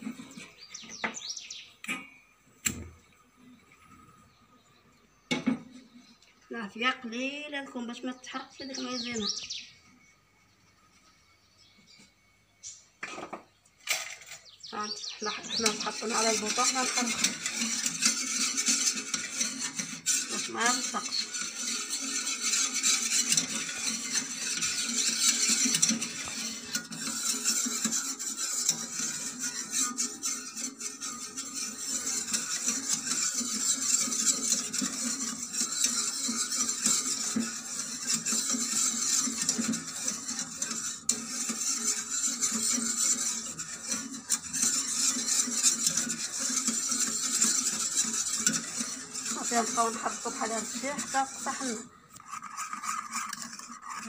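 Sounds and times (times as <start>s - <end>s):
whisk scraping a metal saucepan: 0.0s - 2.9s, 7.8s - 9.8s, 14.0s - 54.0s.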